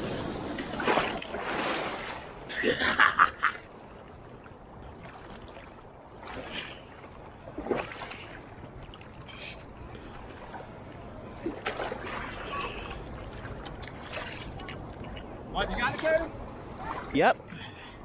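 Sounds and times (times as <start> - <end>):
waves: 0.0 - 18.0
wind: 0.0 - 18.0
water sloshing around wading legs: 0.5 - 2.5, 3.8 - 17.5.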